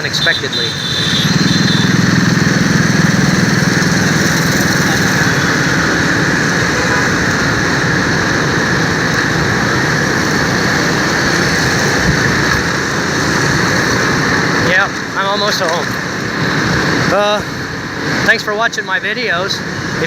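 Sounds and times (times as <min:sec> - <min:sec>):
motorbike engine: 0:00.0 - 0:18.2
road noise: 0:00.0 - 0:20.0.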